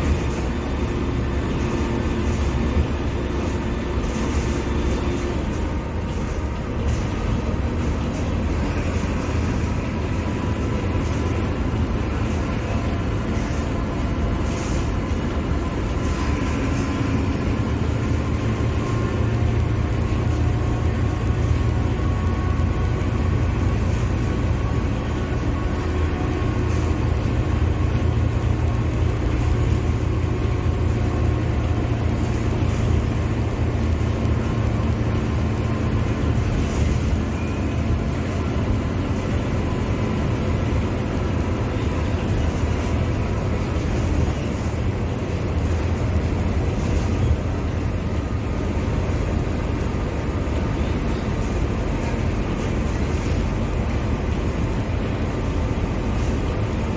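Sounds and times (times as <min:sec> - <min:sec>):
bus diesel engine running: 0:00.0 - 0:56.9.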